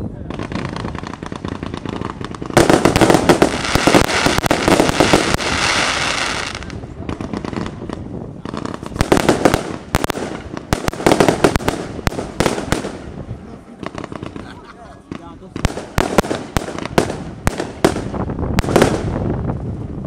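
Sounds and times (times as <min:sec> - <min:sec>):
firework bangs and crackling: 0:00.0 - 0:20.0.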